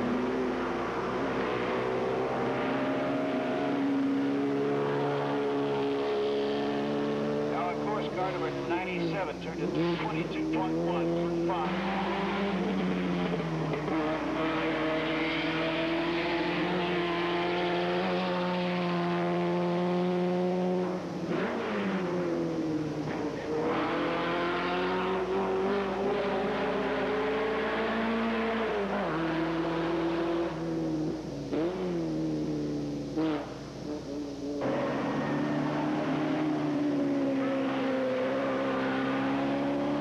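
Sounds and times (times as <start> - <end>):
racing car engine at high revs: 0.0 - 40.0.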